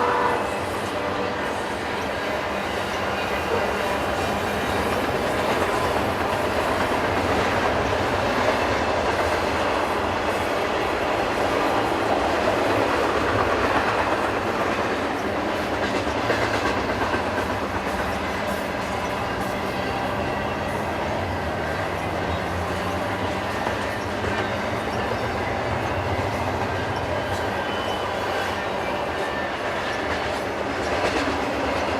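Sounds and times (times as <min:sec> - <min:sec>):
freight train wheels rumbling: 0:00.0 - 0:31.9.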